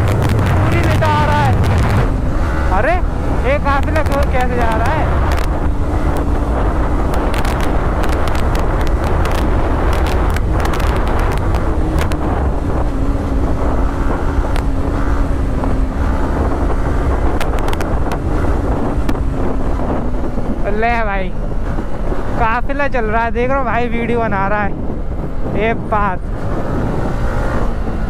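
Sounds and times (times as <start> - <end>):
motorcycle engine hum: 0.0 - 28.0
wind buffeting microphone: 0.0 - 28.0.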